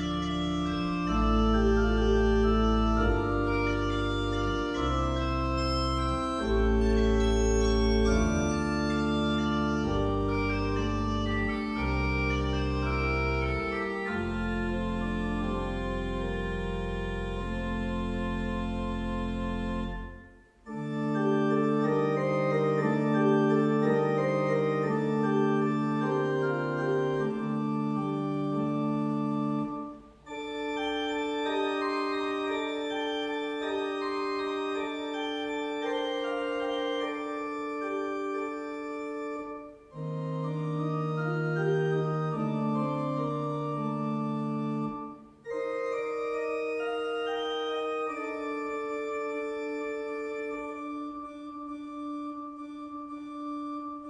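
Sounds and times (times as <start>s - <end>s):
organ playing held chords: 0.0s - 54.0s.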